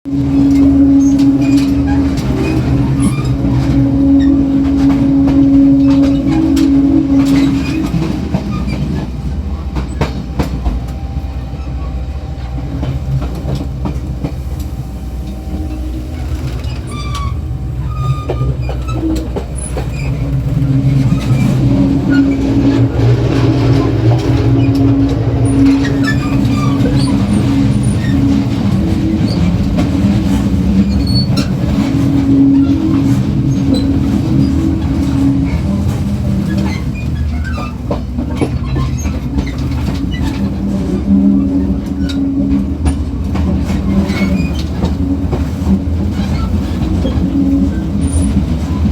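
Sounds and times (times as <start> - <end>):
diesel engine droning: 0.0 - 48.9
train wheels running on rails: 0.0 - 48.9.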